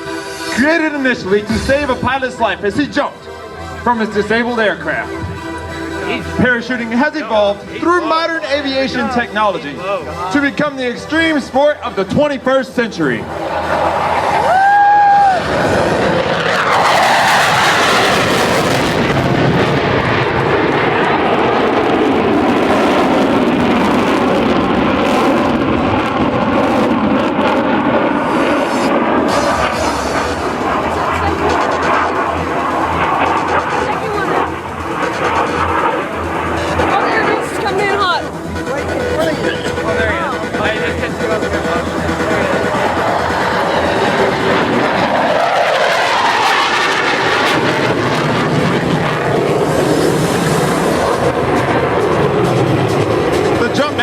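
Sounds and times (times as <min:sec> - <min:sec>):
jet engines flying overhead: 0:00.0 - 0:54.0.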